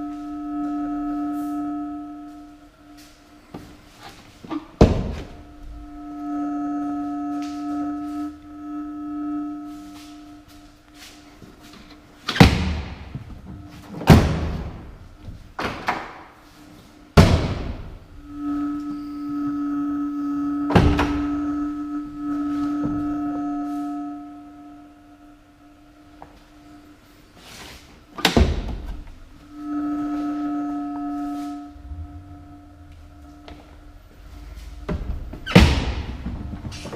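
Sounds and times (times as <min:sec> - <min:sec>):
steady electronic tone: 0:00.0 - 0:36.9.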